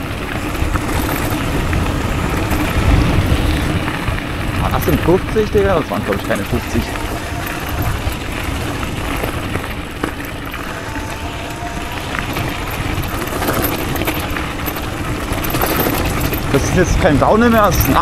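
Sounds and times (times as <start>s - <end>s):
electric motor whine: 0.0s - 17.0s
tyres rolling over gravel: 0.0s - 18.0s
wind buffeting microphone: 0.0s - 18.0s.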